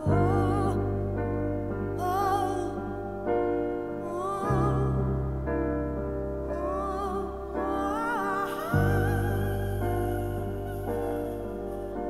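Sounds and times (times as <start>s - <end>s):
slow music of sustained chords: 0.0s - 12.0s.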